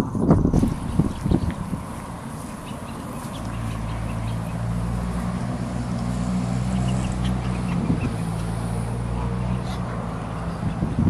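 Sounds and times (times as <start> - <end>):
low engine hum: 0.0 - 11.0
geese and goslings calling: 0.6 - 11.0.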